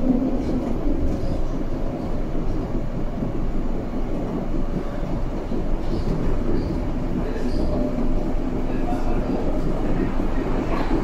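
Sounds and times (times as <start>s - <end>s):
train rumble and rattle: 0.0s - 11.0s.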